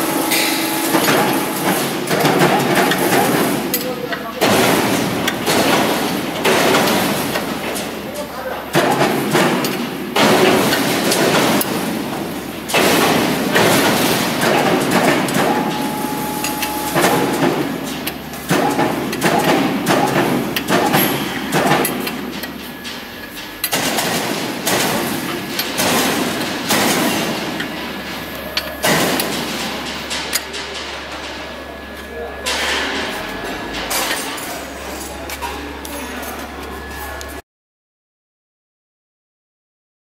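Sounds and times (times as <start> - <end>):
busy clattering background: 0.0 - 37.4.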